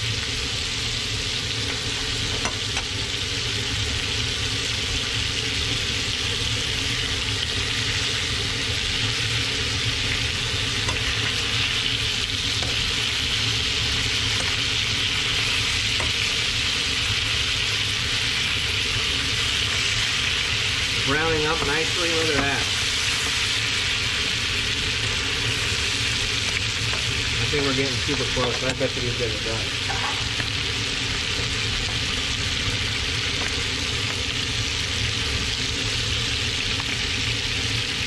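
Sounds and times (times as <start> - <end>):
fish sizzling in butter: 0.0 - 38.0.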